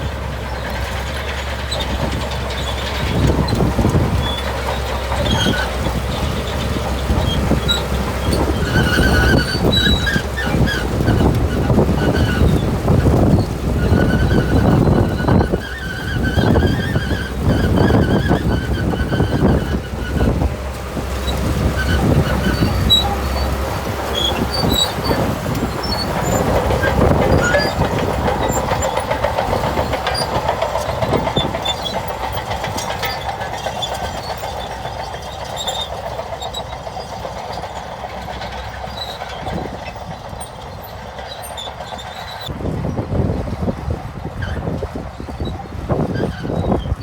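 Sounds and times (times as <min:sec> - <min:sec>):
bulldozer diesel engine under load: 0:00.0 - 0:47.0
steel tracks clanking and squeaking: 0:00.0 - 0:47.0.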